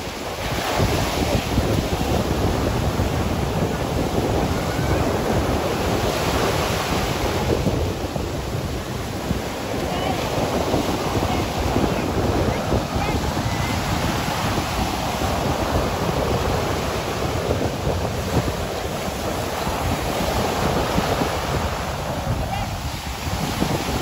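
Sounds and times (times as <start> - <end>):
sea surf breaking: 0.0 - 24.0.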